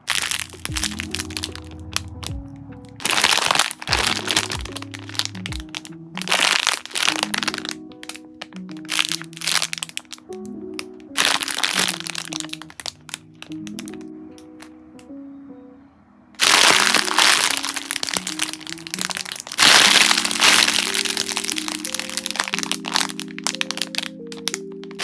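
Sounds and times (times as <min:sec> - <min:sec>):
plastic bags crinkling: 0:00.0 - 0:02.4, 0:03.0 - 0:10.2, 0:11.2 - 0:14.0, 0:16.4 - 0:25.0
soft background music: 0:00.0 - 0:25.0.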